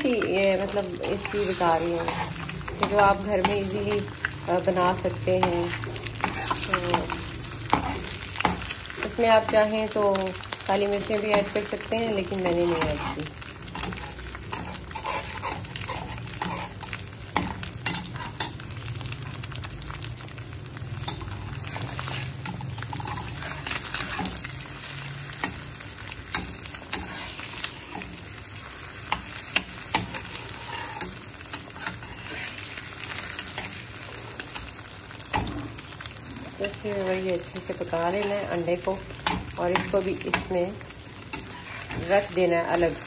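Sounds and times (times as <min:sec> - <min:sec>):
egg sizzling in oil: 0:00.0 - 0:43.0.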